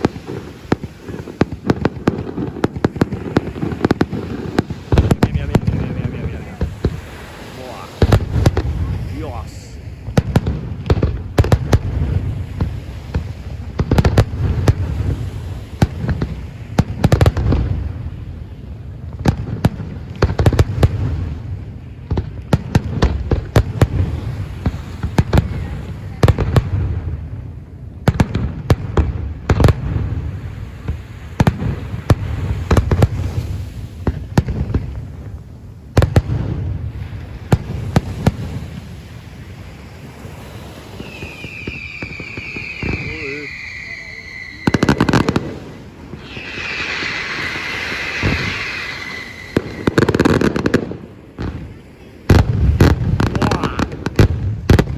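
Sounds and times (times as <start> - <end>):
fireworks bangs and booms: 0.0 - 54.9.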